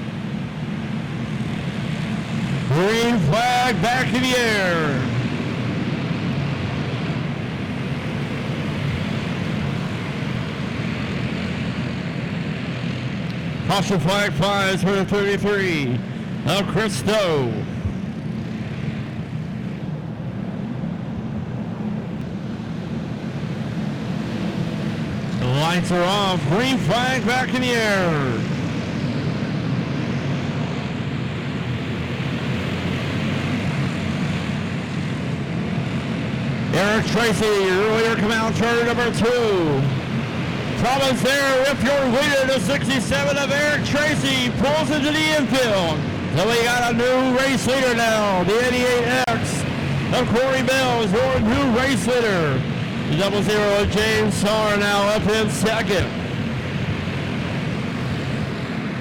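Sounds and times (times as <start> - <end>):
racing kart engines droning: 0.0 - 59.0.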